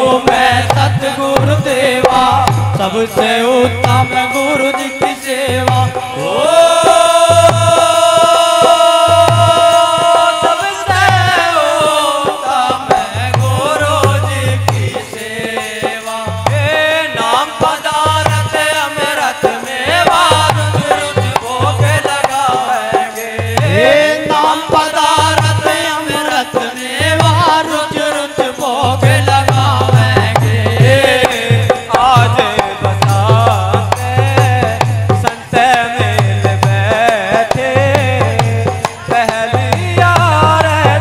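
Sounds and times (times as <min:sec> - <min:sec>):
drum beating steady rhythm: 0:00.0 - 0:41.0
group of men singing: 0:00.0 - 0:41.0.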